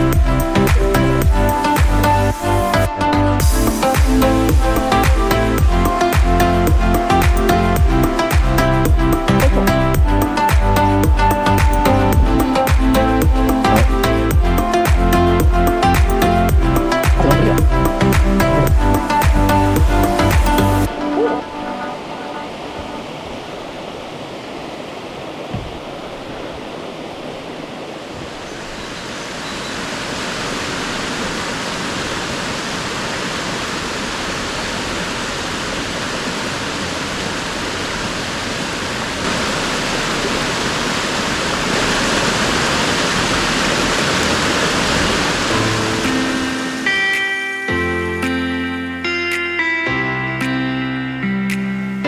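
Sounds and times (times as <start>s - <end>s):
waterfall rushing: 0.0s - 48.4s.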